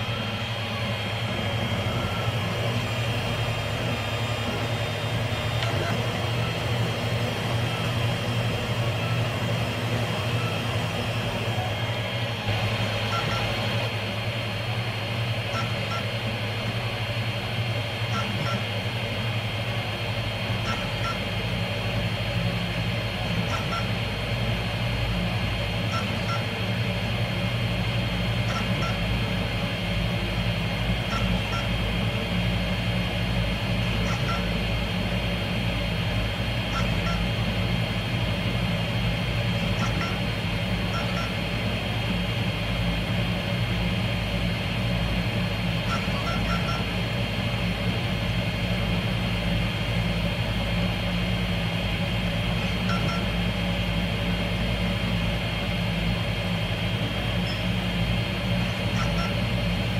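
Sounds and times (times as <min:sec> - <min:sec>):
printer motors and fans humming: 0:00.0 - 0:59.9.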